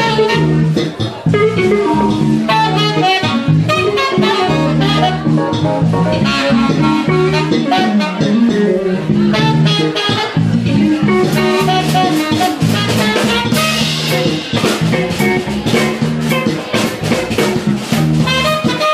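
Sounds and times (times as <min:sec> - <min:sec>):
saxophone lines: 0:00.0 - 0:16.6, 0:17.6 - 0:18.9
drum kit: 0:00.0 - 0:18.9
electric bass: 0:00.0 - 0:18.9
electric guitar: 0:00.0 - 0:18.9.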